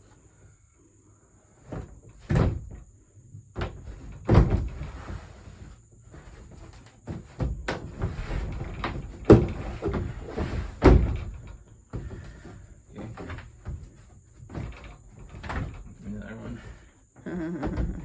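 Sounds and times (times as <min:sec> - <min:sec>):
plastic panels knocking and clattering: 0:01.7 - 0:02.9, 0:03.5 - 0:16.8, 0:17.6 - 0:18.0.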